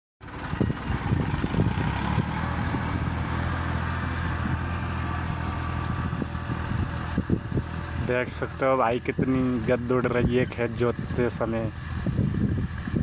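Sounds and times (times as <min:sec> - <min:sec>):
tractor diesel engines running: 0:00.2 - 0:13.0.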